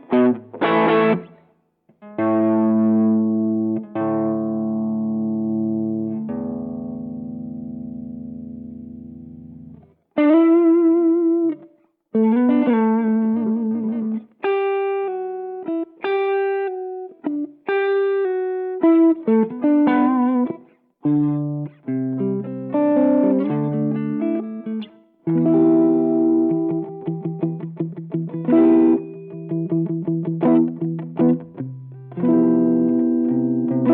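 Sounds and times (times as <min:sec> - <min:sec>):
overdriven electric guitar: 0:00.0 - 0:33.9.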